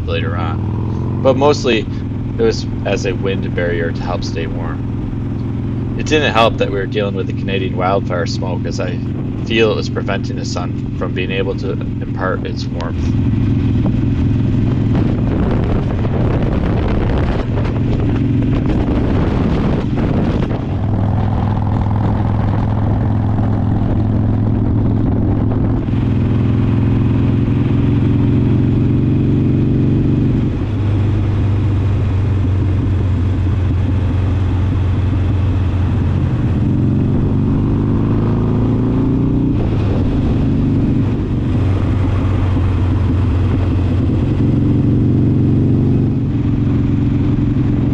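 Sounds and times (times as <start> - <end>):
motorcycle engine running: 0.0 - 47.9
road and wind noise: 0.0 - 47.9.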